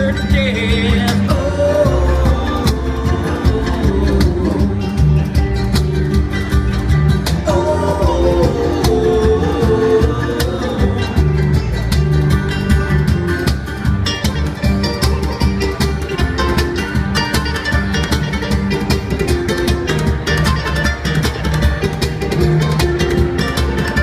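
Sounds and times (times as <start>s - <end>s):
bluegrass band playing: 0.0s - 24.0s.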